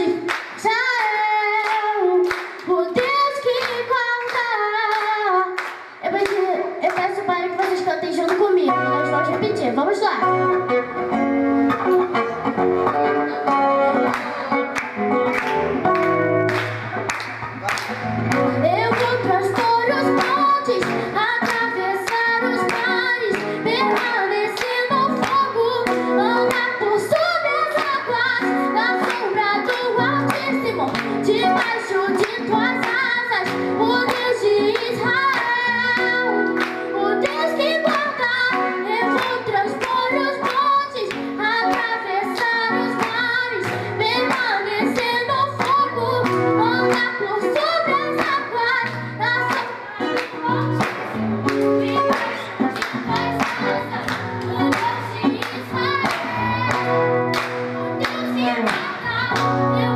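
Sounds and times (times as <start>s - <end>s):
hands clapping a steady beat: 0.0s - 9.6s, 11.7s - 59.9s
girl singing into microphone: 0.0s - 12.2s, 18.3s - 59.9s
acoustic guitar: 0.0s - 59.9s.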